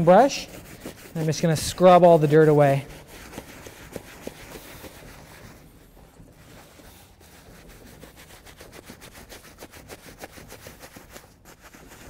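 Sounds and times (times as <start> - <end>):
brush scrubbing leather: 0.0 - 12.0.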